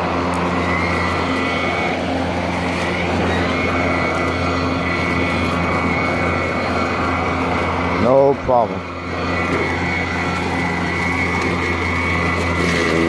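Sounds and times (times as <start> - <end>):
electric lawn mower running: 0.0 - 13.0.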